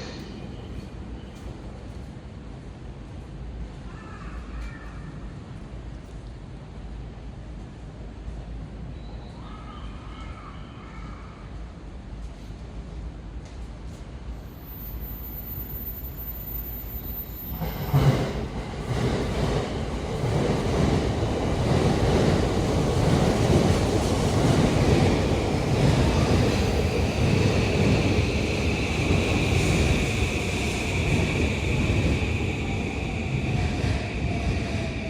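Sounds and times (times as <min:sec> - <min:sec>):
train rumbling and clattering on rails: 0:00.0 - 0:35.0.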